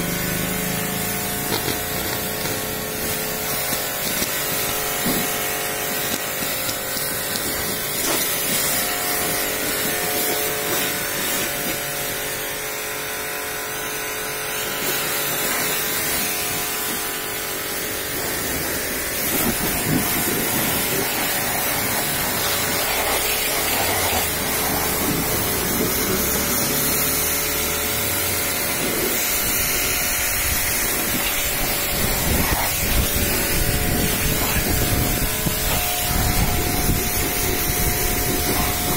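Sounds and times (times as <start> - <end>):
motor hum: 0.0 - 38.9
pressure washer jet hissing: 0.0 - 38.9.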